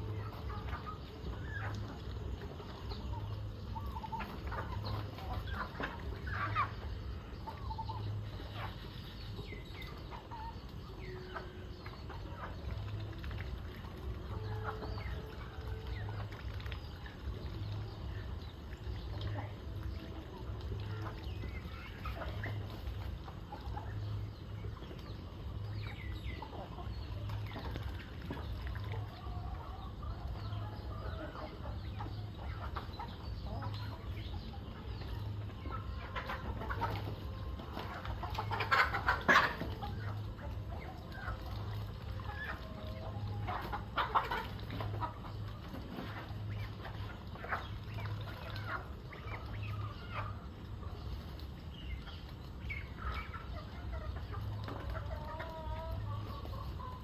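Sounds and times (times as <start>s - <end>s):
chickens clucking: 0.0s - 57.0s
low steady hum: 0.0s - 57.0s.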